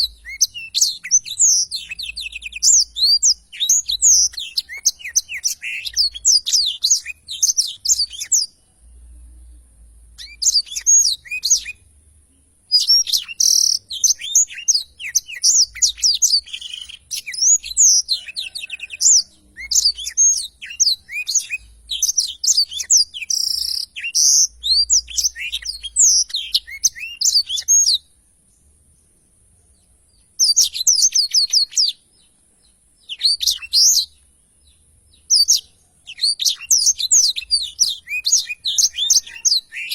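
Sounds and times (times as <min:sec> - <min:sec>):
canary twittering song: 0:00.0 - 0:39.9.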